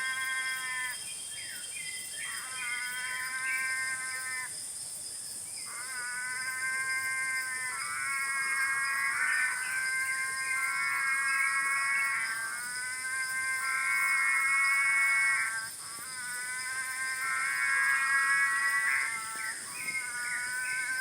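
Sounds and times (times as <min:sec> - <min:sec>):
chorus of frogs calling: 0:00.0 - 0:01.0, 0:02.2 - 0:04.5, 0:05.6 - 0:21.0
high-pitched insect drone: 0:00.0 - 0:04.5, 0:05.6 - 0:21.0.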